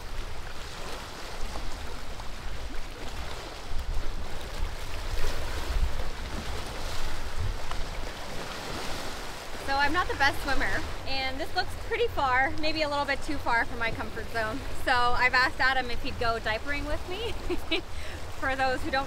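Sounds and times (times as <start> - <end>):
lake water washing: 0.0 - 19.0
wind buffeting microphone: 0.0 - 19.0.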